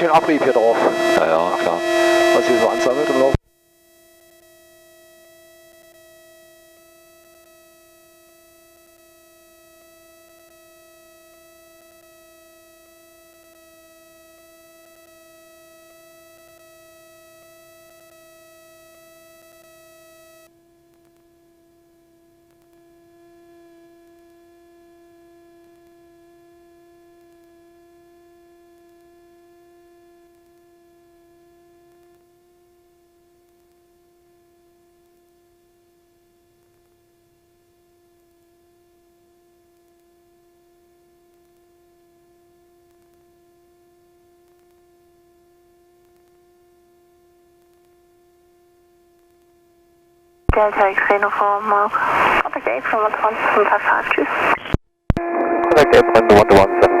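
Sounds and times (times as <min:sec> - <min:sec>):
electrical whine on intercom: 0:00.0 - 0:57.0.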